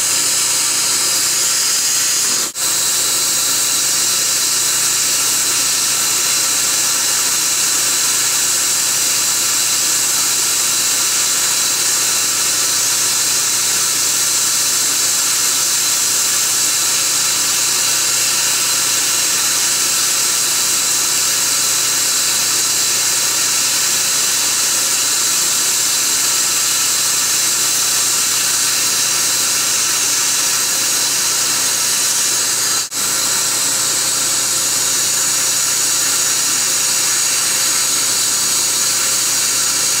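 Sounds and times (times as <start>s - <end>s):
dental equipment high hiss: 0.0s - 40.0s.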